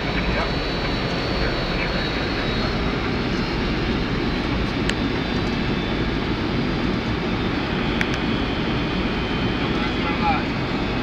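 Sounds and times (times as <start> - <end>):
airliner cockpit engine and airflow: 0.0 - 11.0.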